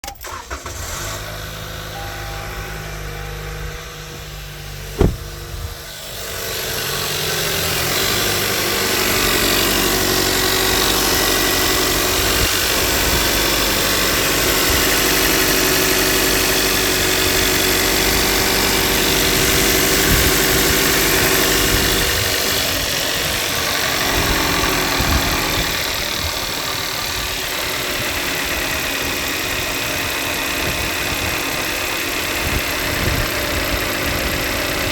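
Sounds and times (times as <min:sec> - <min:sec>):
car engine starting and idling: 0:00.0 - 0:34.9
engine ticking noise: 0:04.8 - 0:06.5, 0:07.4 - 0:34.9.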